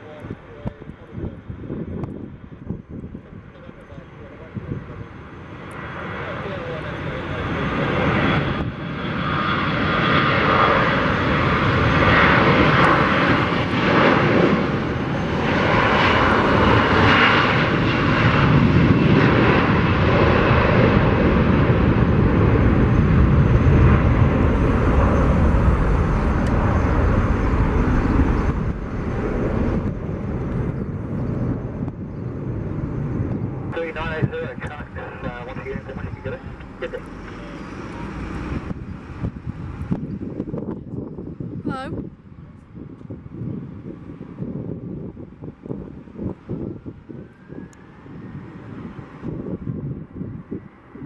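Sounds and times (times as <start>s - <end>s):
jet engines at takeoff: 0.0s - 51.0s.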